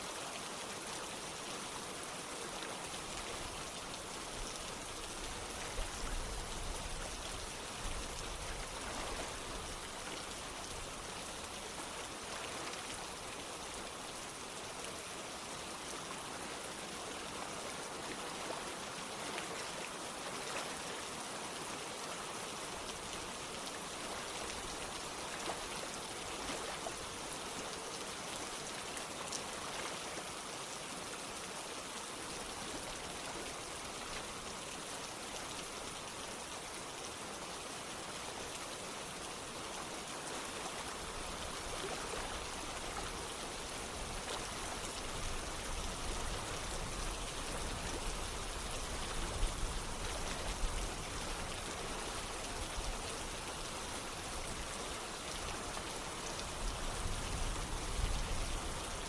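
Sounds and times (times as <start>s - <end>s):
running water: 0.0s - 59.0s
steady rain: 0.0s - 59.0s.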